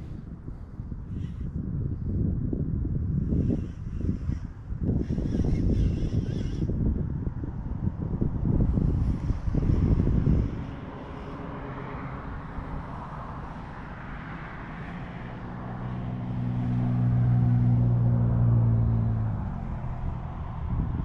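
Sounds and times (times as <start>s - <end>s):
engine drone of passing vehicle: 0.0s - 21.0s.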